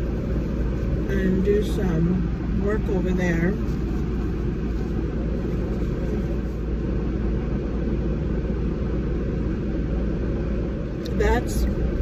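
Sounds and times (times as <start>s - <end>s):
air conditioning blower: 0.0s - 12.0s.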